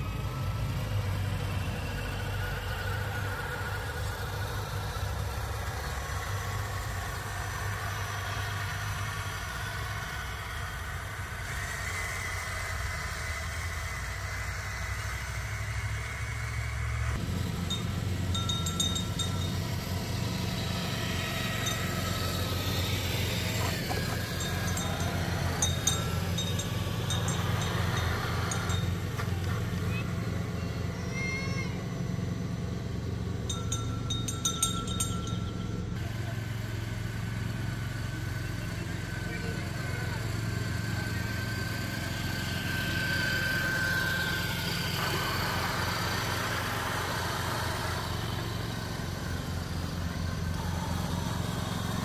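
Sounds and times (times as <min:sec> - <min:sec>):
vehicle engine rumbling: 0:00.0 - 0:52.0.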